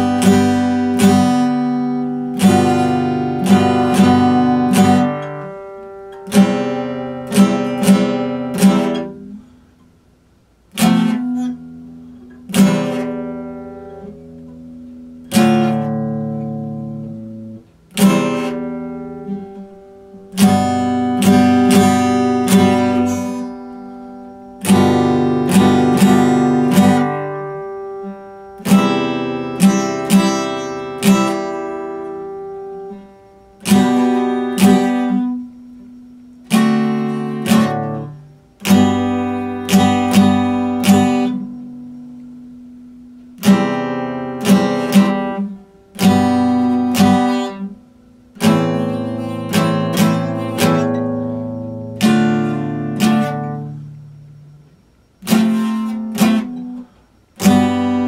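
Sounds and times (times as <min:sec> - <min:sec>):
acoustic guitar playing: 0:00.0 - 0:58.0.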